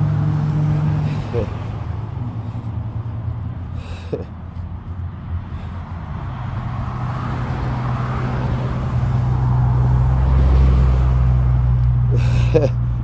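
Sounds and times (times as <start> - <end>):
vehicle engine hum approaching: 0.0 - 13.0.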